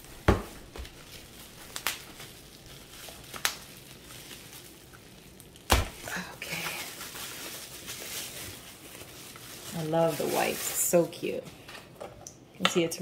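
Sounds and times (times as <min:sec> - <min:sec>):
bubble wrap rustling and crinkling: 0:00.0 - 0:12.0.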